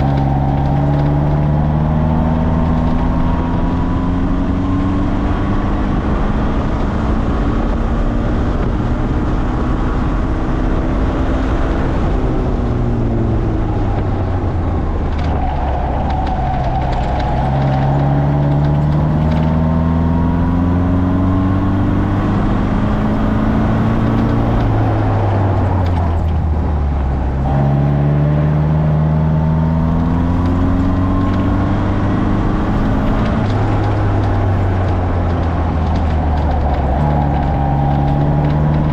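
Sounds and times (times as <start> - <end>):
sports car engine accelerating: 0.0 - 38.9.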